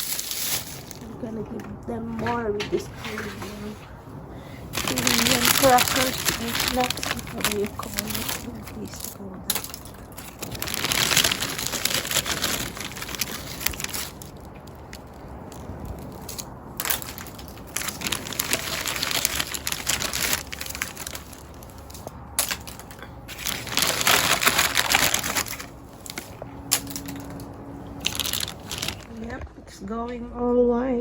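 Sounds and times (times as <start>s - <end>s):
plastic snack packet crinkling: 0.0s - 1.2s, 4.6s - 29.3s.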